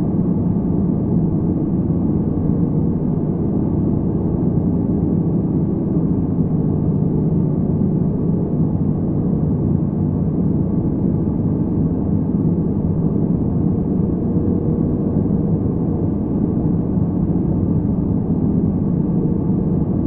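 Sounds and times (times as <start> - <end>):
muffled electric fan whirring: 0.0 - 20.0.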